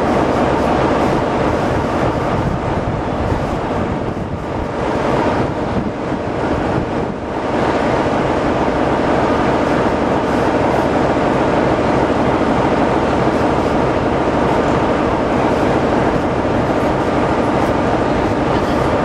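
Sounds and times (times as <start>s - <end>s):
steam venting hiss: 0.0s - 19.0s.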